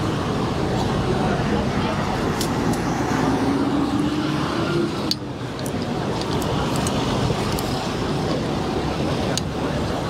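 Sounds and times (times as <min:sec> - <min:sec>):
rumble of running engines: 0:00.0 - 0:10.0.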